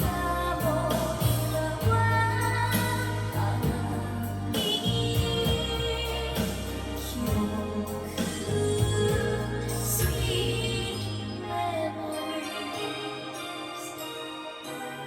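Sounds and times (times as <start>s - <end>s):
song with singing and bass: 0.0s - 15.0s.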